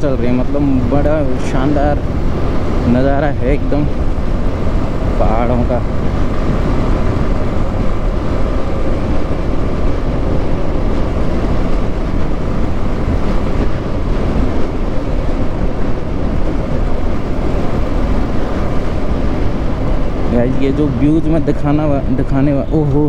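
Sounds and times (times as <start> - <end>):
motorcycle engine cruising: 0.0 - 20.5
wind buffeting microphone: 0.0 - 23.0.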